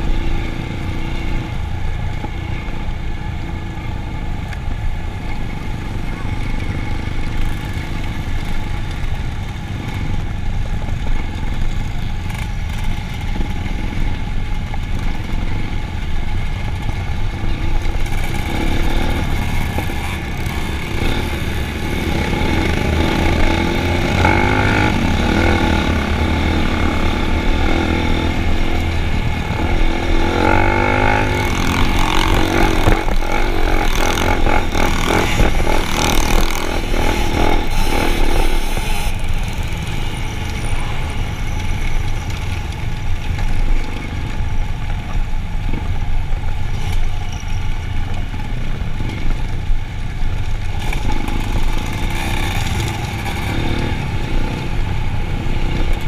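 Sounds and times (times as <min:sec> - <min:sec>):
vehicle engines running: 0:00.0 - 0:56.0.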